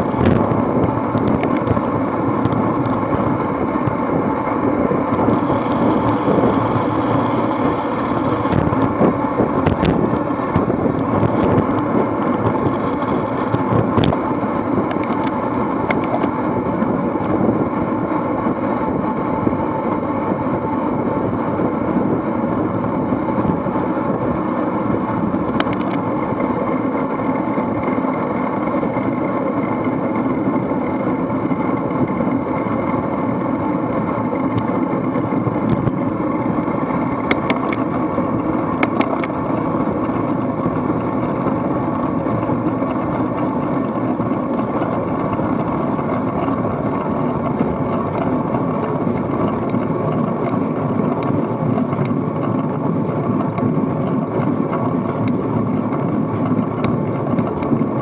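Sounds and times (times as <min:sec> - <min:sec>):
bicycle tyre and road noise: 0:00.0 - 0:58.0
wind rush over microphone: 0:00.0 - 0:58.0.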